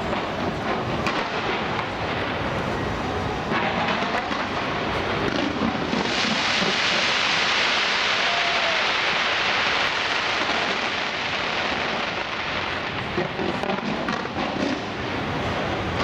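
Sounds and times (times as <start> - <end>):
crackling hiss: 0.0 - 16.0
rumble of firework bursts: 0.0 - 16.0
sharp firework bangs: 0.0 - 16.0.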